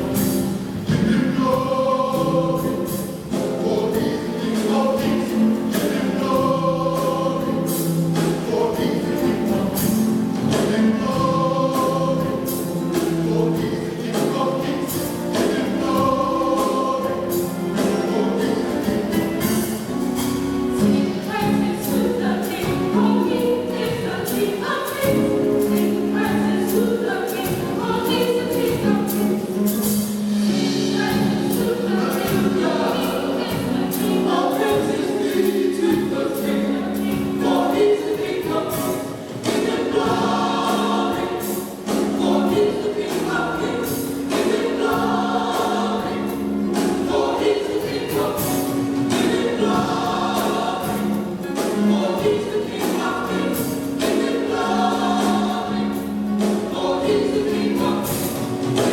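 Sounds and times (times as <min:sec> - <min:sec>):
gospel choir singing in harmony: 0:00.0 - 0:58.9.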